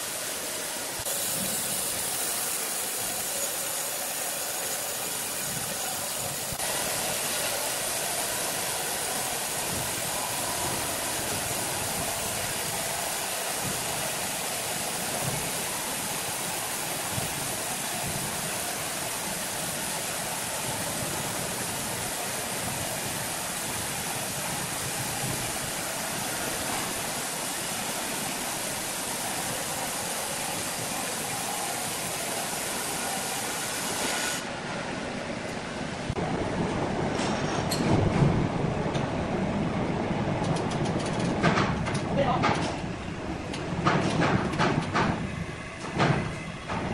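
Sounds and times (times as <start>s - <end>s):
sawmill machine running: 0.0s - 46.9s.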